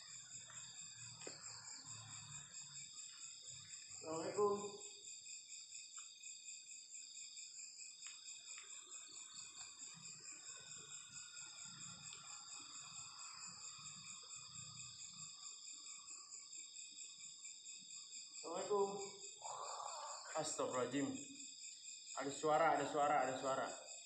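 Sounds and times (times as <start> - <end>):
crickets and insects trilling: 0.0 - 24.0.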